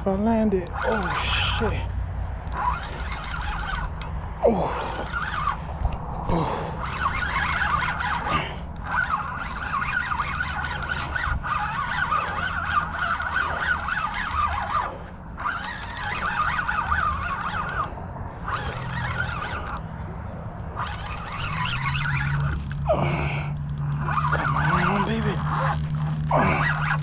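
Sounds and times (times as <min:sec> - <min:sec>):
spinning reel whirring: 0:00.0 - 0:27.0.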